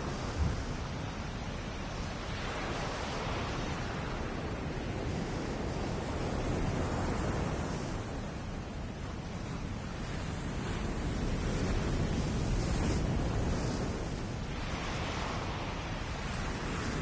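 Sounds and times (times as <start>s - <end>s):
waves washing on beach: 0.0s - 17.0s.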